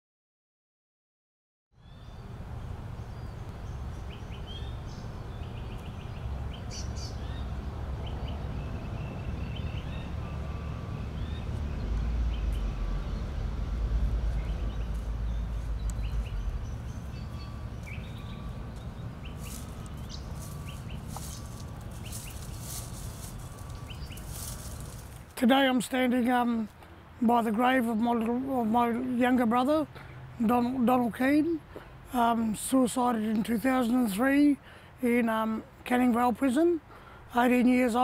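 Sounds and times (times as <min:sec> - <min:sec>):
birds chirping: 0:01.8 - 0:38.0.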